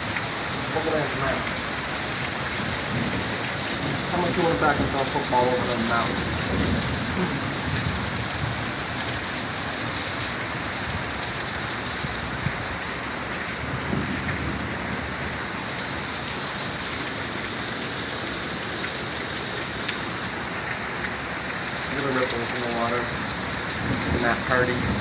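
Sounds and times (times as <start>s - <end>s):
rain falling onto water: 0.0s - 25.0s.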